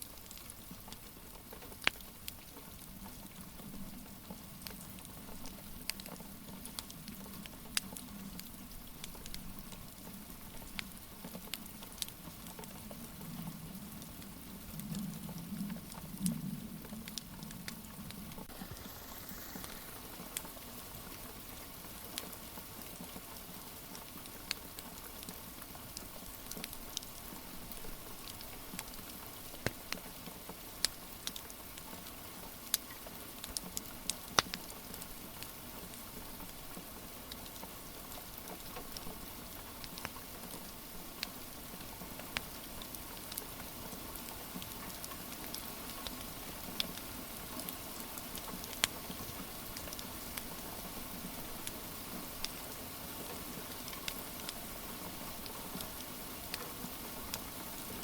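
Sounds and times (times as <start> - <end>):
wood fire crackling and popping: 0.1 - 3.6, 4.4 - 23.2, 23.9 - 58.0
rain hissing: 4.1 - 58.0.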